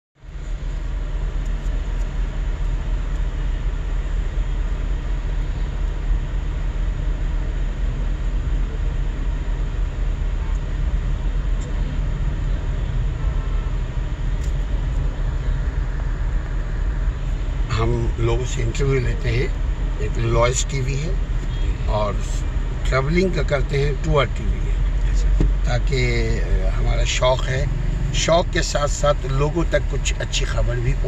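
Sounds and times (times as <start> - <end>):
car road rumble inside cabin: 0.2 - 31.0.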